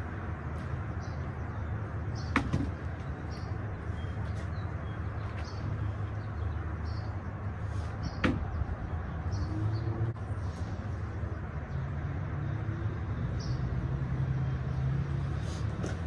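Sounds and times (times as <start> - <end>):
low outdoor hum: 0.0 - 16.0
small birds chirping: 0.0 - 16.0.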